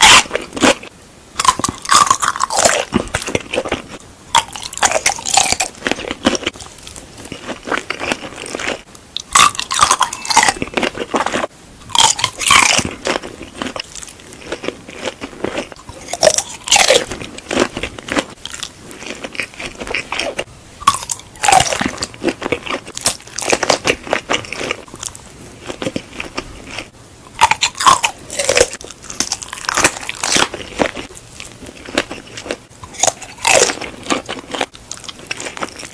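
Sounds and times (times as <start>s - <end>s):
crunchy bites into food: 0.0s - 31.1s, 31.7s - 35.9s
chewing: 0.0s - 35.9s.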